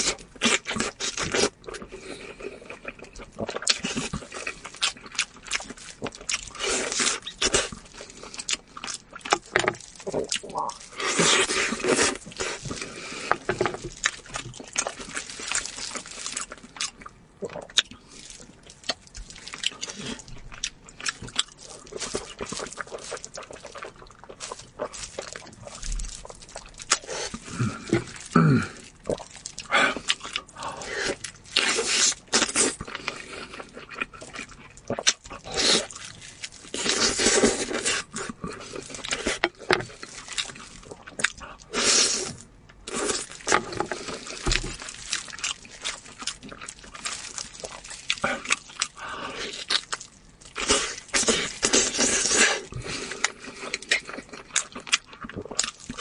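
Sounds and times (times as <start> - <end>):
wet chewing and slurping: 0.0 - 56.0
crisp bites of vegetable: 2.8 - 56.0.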